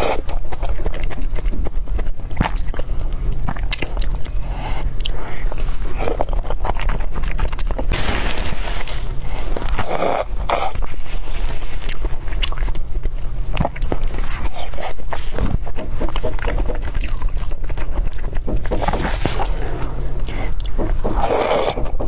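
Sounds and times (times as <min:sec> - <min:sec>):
chewing with wet smacks: 0:00.0 - 0:07.9, 0:11.8 - 0:22.0.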